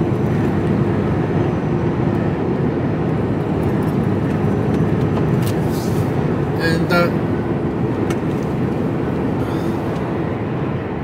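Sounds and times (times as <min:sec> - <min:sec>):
lorry diesel engine drone: 0:00.0 - 0:11.0
road noise: 0:00.0 - 0:11.0.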